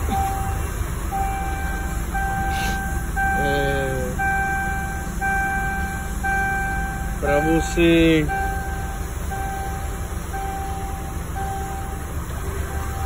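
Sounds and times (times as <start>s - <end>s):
diesel engine idling: 0.0s - 13.0s
warning buzzer beeping: 0.0s - 13.0s.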